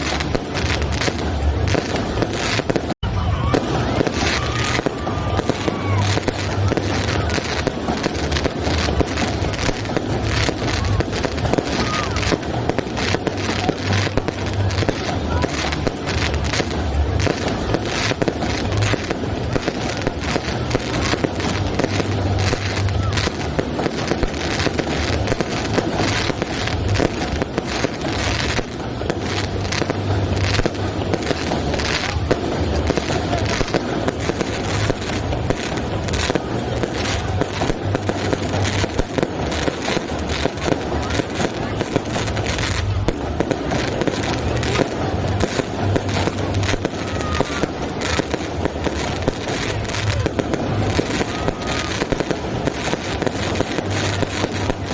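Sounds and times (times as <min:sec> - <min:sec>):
deep fireworks booming: 0:00.0 - 0:54.9
fireworks bangs and crackles: 0:00.0 - 0:54.9.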